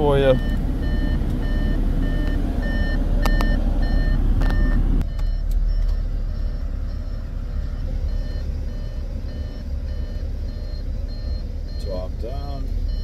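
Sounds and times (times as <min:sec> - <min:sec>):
car warning chime beeping: 0:00.0 - 0:13.0.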